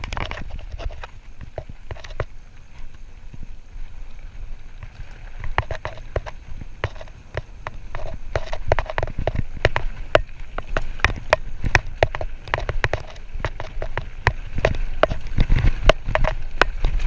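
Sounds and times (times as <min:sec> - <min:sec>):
mountain bike rattling: 0:00.0 - 0:03.6, 0:05.3 - 0:17.0
wind rumble on microphone: 0:00.0 - 0:17.0.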